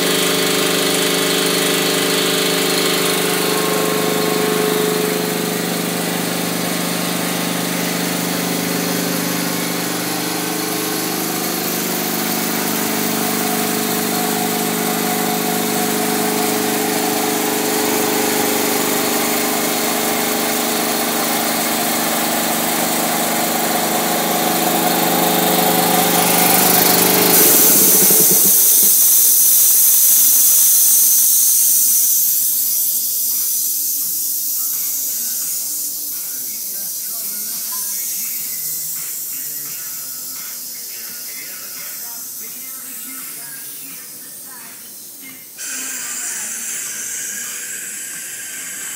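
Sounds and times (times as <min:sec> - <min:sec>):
air compressor running: 0:00.0 - 0:48.9
air venting hiss: 0:00.2 - 0:48.9.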